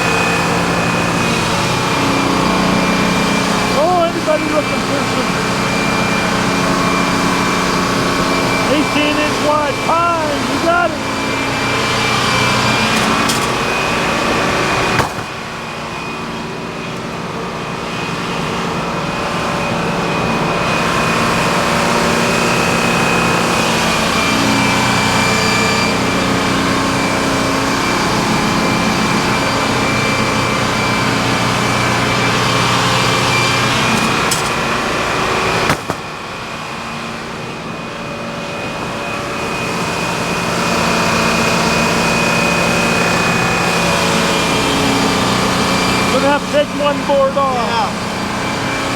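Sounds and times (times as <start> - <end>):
sawmill engine and saw whining: 0.0 - 48.9.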